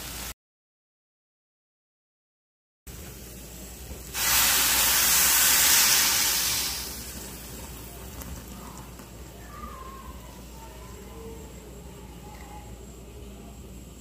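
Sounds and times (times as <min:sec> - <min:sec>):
loud sizzling hiss: 0:00.0 - 0:00.4, 0:02.9 - 0:14.0.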